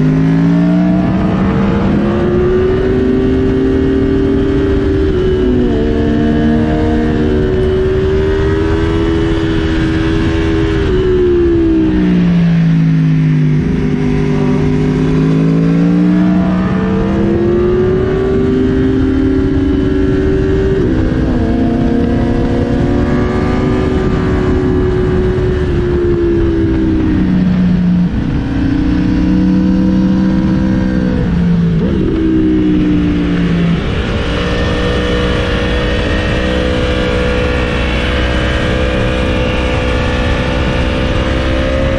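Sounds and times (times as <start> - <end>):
motorcycle engine shifting gears: 0.0 - 41.9
wind rushing on microphone: 0.0 - 41.9.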